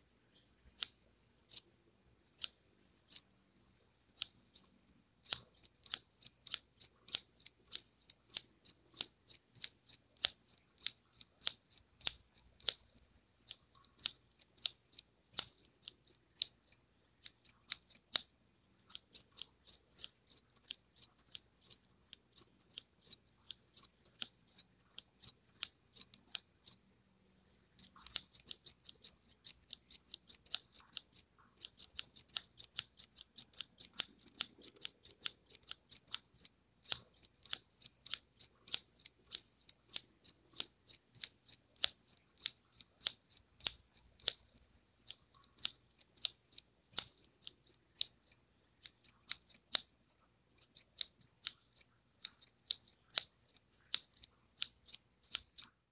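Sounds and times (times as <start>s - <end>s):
scissors snipping: 4.2s - 18.3s, 18.9s - 26.8s, 27.8s - 49.9s, 50.6s - 55.8s.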